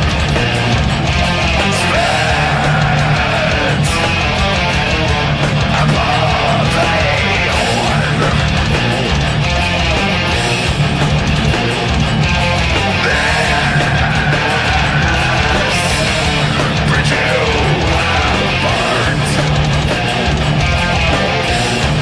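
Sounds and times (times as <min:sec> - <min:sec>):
electric guitar riff: 0:00.0 - 0:22.0
heavy metal band backing with drums: 0:00.0 - 0:22.0.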